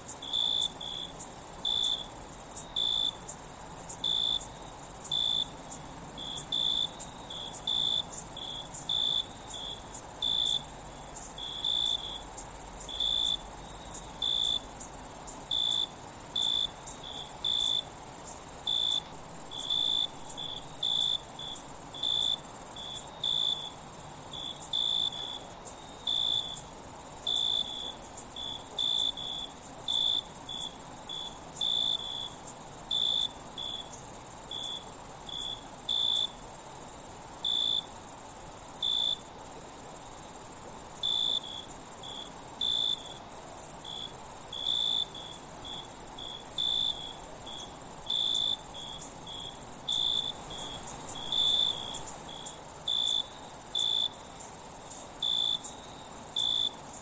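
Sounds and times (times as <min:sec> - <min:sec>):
cricket chirps: 0:00.0 - 0:57.0
high-pitched insect trill: 0:00.0 - 0:57.0.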